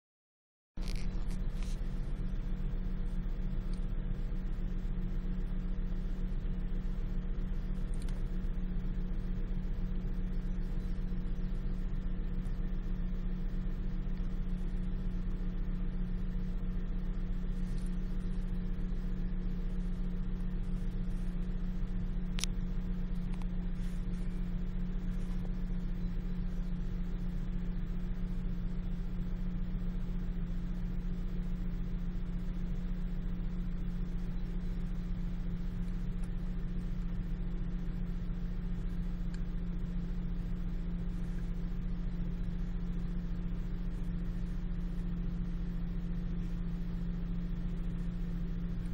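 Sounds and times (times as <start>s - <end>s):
low hum with whir: 0.8s - 48.9s.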